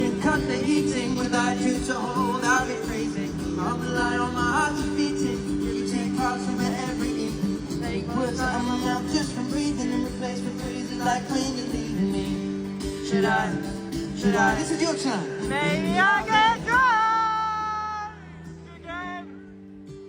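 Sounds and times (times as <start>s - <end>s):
man singing wordless vocal: 0.0s - 19.4s
acoustic guitar chords: 0.0s - 20.0s.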